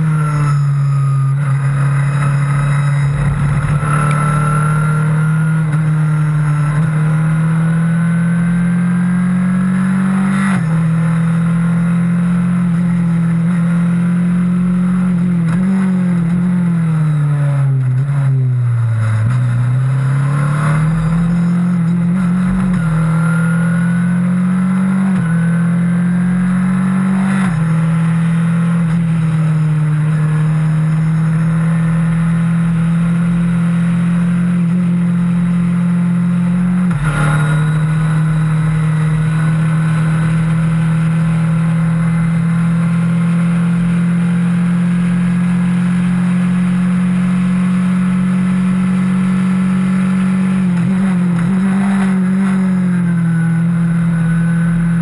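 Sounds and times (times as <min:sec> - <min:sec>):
race car engine at high revs: 0:00.0 - 0:55.0.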